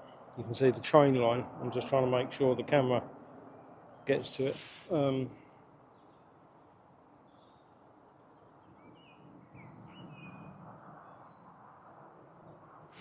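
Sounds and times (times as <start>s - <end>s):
faint birdsong chirps: 0.0s - 0.8s, 3.3s - 13.0s.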